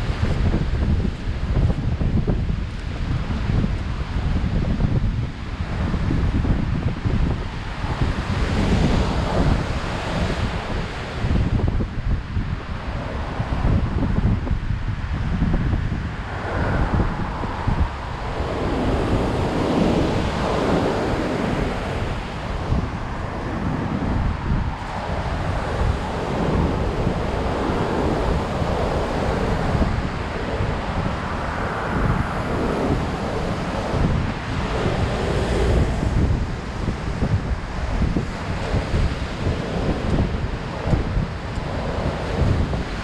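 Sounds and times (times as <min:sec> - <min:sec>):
surf breaking on a beach: 0:00.0 - 0:43.0
wind buffeting the microphone: 0:00.0 - 0:43.0.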